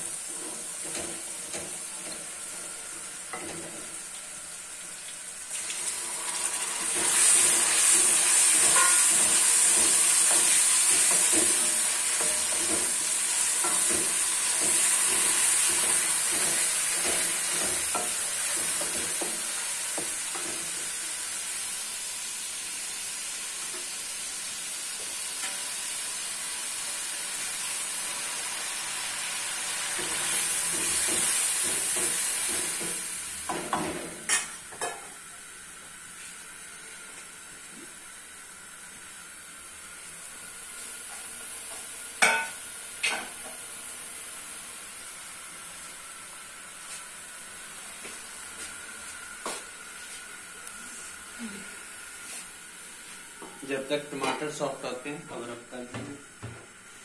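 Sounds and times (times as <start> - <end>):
spices sizzling in oil: 0.0 - 57.0.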